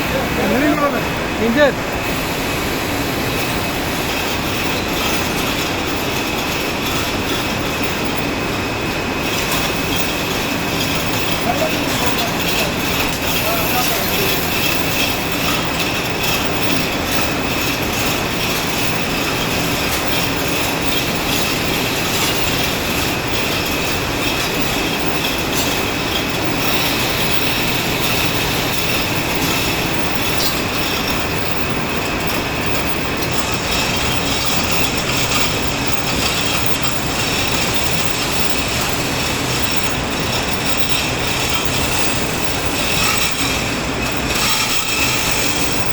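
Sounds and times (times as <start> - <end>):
textile machinery din: 0.0 - 45.9.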